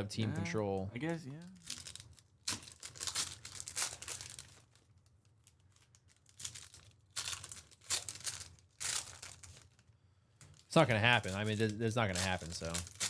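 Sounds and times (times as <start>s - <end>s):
card pack wrappers crinkling and tearing: 1.0s - 13.0s.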